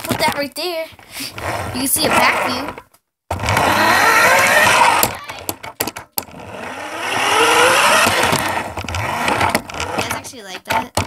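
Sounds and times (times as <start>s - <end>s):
toy car electric motor whining: 1.2s - 2.8s, 3.4s - 11.0s.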